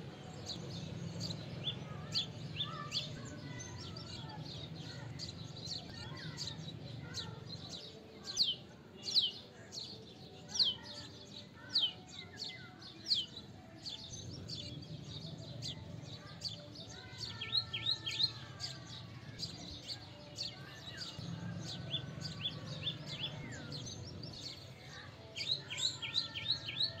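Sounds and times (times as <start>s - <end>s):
songbirds whistling: 0.0s - 27.0s.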